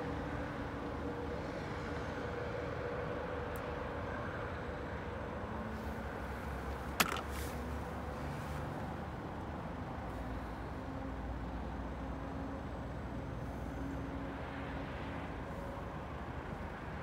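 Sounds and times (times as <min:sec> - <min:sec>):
faint engine hums: 0:00.0 - 0:17.0
road traffic rumble: 0:00.0 - 0:17.0.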